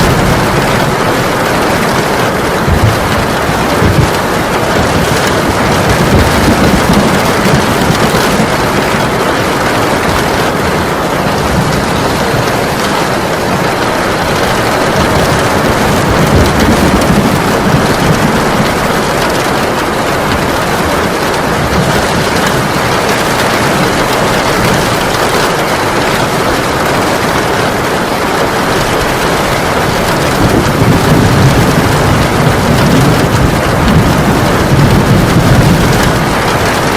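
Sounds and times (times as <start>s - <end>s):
low rumbles of thunder: 0.0s - 25.3s, 28.8s - 36.9s
heavy rain pouring: 0.0s - 36.9s.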